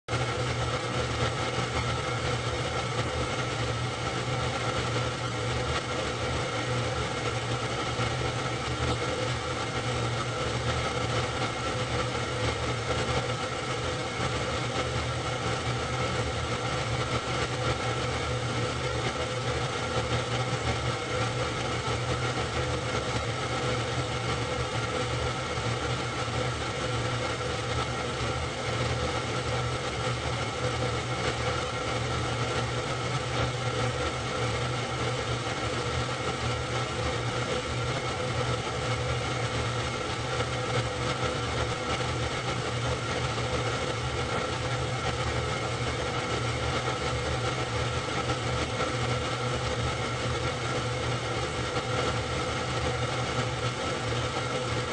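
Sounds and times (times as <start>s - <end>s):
film projector motor hum: 0.1s - 54.9s.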